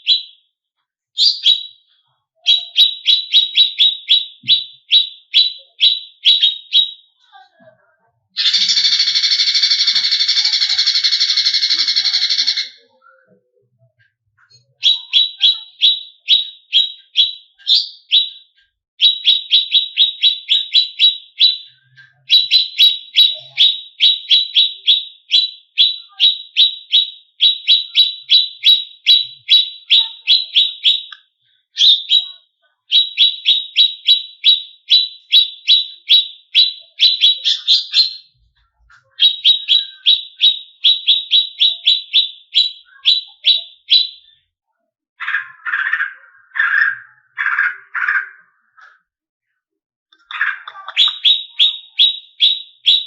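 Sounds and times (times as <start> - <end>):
songbird chirping rapidly: 0.0 - 0.5, 1.2 - 7.3, 8.4 - 13.4, 14.4 - 38.4, 39.0 - 44.5, 45.2 - 49.0, 50.1 - 53.0.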